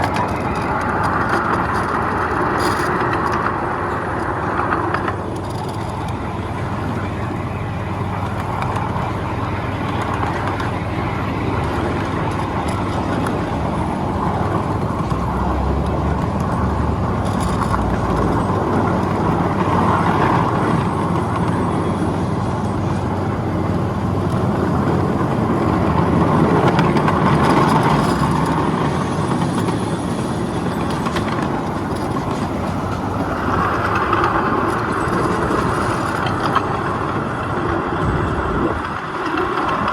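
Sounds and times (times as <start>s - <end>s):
miniature train running on track: 0.0s - 39.9s.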